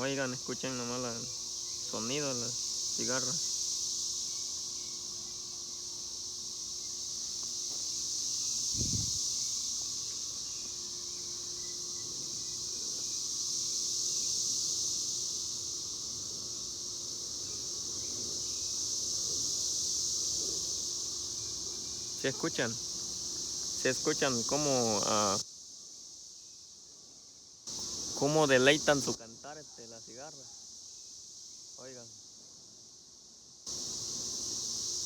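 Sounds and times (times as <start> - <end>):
cicadas buzzing: 0.0 - 35.0.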